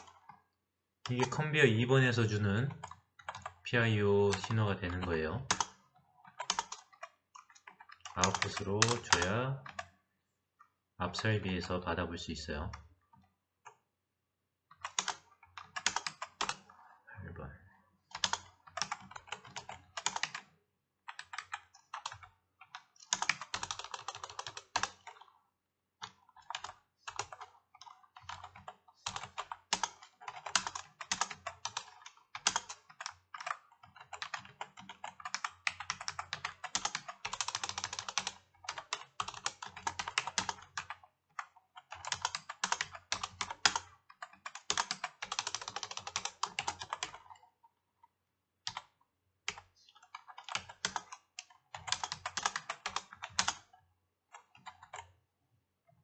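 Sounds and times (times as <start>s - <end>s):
typing on computer keyboard: 0.0s - 10.0s, 14.7s - 16.8s, 18.0s - 25.4s, 26.0s - 47.6s, 48.6s - 55.2s.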